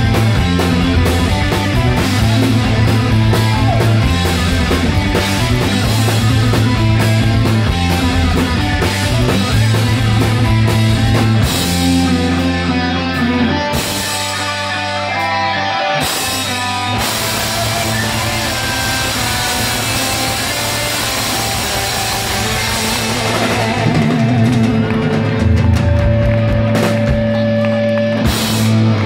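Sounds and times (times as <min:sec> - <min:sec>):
drum kit: 0:00.0 - 0:29.0
live rock band playing: 0:00.0 - 0:29.0.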